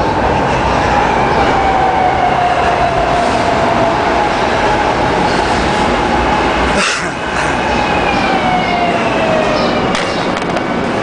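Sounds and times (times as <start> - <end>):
train rumble and rail noise: 0.0 - 11.0.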